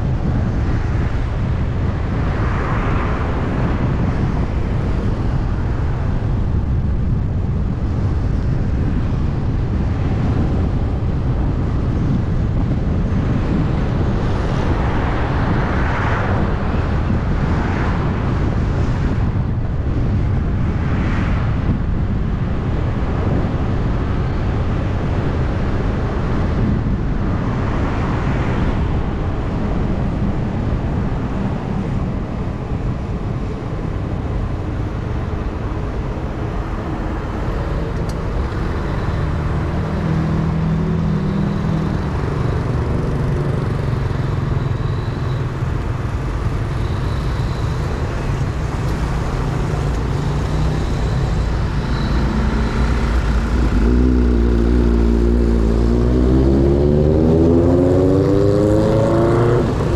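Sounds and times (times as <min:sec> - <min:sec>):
passing traffic: 0:00.0 - 0:59.9
vehicle road noise: 0:00.0 - 0:59.9
wind rumble on microphone: 0:00.0 - 0:59.9.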